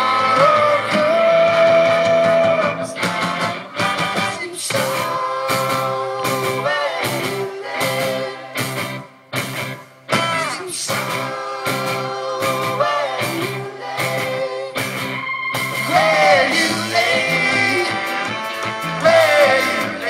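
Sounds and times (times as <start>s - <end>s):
person singing: 0.0s - 3.1s, 3.8s - 8.8s, 10.1s - 20.0s
brass: 0.0s - 8.9s, 12.7s - 20.0s
electric guitars: 0.0s - 20.0s
keyboard: 0.0s - 20.0s
rock band playing: 0.0s - 20.0s.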